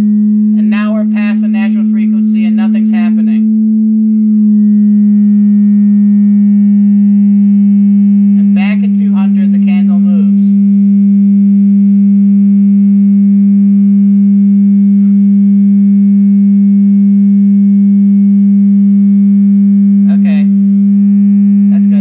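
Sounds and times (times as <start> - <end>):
steady sine tone: 0.0 - 22.0.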